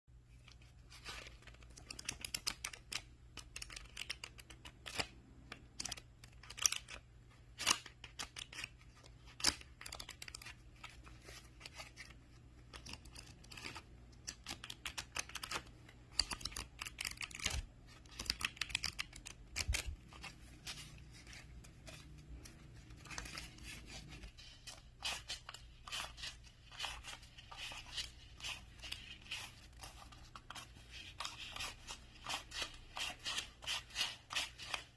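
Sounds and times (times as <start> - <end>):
paper banknotes snapping and rustling: 0.6 - 34.9.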